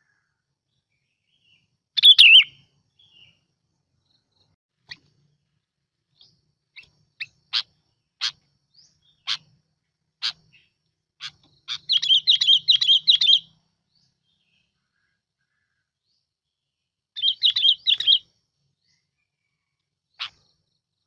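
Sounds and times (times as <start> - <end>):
bird song: 0.0 - 21.0.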